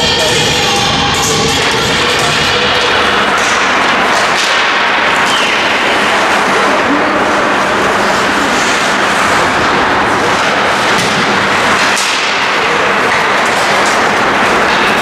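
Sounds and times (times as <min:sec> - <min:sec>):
ice hockey game din: 0:00.0 - 0:15.0.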